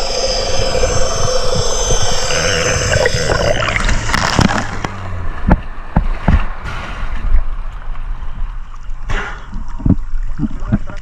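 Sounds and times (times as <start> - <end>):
water sloshing and gurgling: 0.0 - 11.0.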